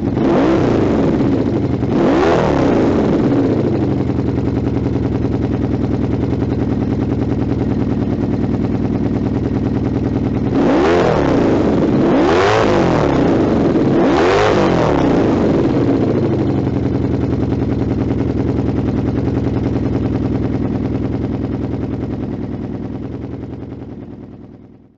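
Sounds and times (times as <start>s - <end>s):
motorcycle engine idling: 0.0s - 24.9s
motorcycle engine revving: 0.0s - 24.9s.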